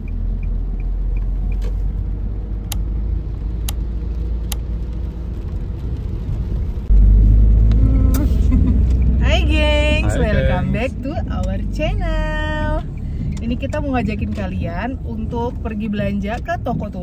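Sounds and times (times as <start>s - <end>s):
car rumble from inside: 0.0s - 17.0s.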